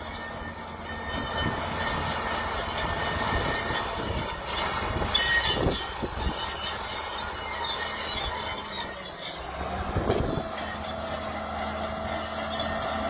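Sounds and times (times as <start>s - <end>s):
excavator rumble: 0.0s - 13.0s
metallic squeal and whine: 0.0s - 13.0s.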